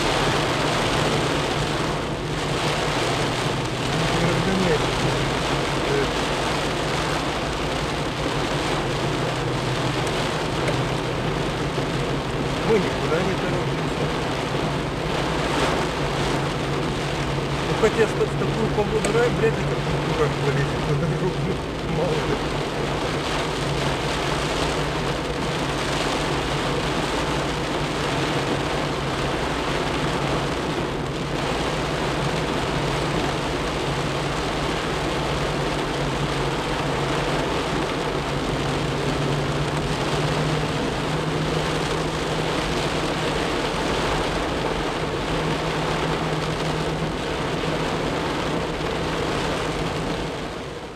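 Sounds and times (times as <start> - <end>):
heavy rain on car roof: 0.0 - 50.9
moving car hum: 0.0 - 50.9.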